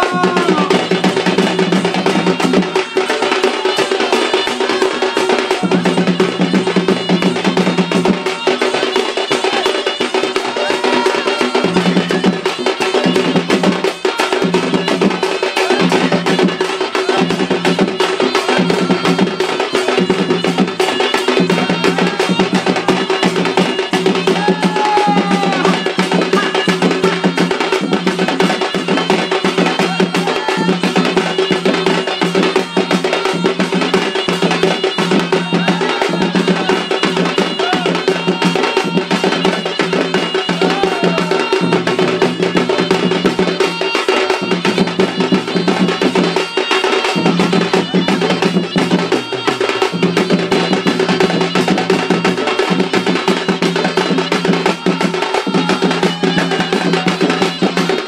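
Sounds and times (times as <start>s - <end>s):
fast barrel drumming: 0.0s - 58.0s.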